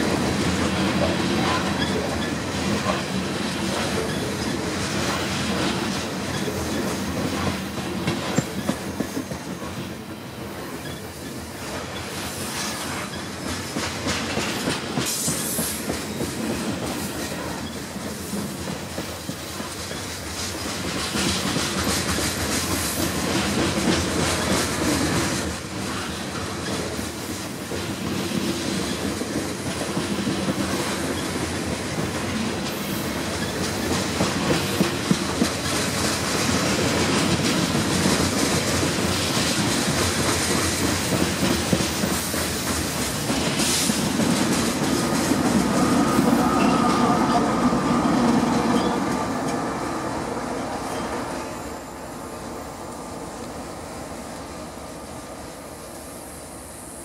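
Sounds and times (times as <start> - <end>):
diesel locomotive engines: 0.0 - 57.0
train wheels clicking on rails: 0.0 - 57.0.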